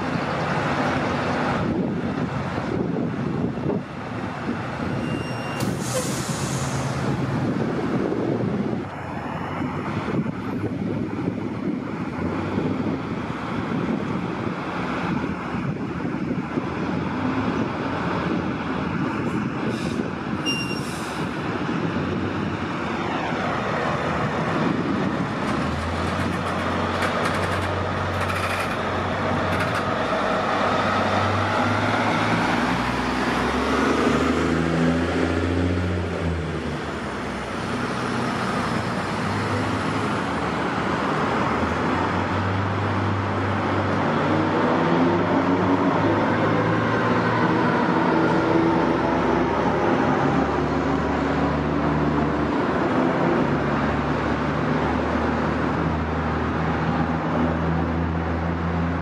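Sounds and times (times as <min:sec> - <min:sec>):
fire truck engines accelerating: 0:00.0 - 0:59.0
road and traffic hum: 0:00.0 - 0:59.0.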